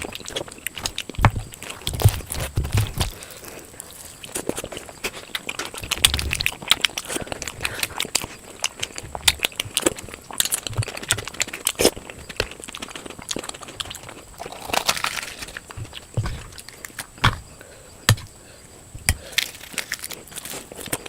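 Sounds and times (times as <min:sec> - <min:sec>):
person chewing with wet smacks: 0:00.0 - 0:18.4.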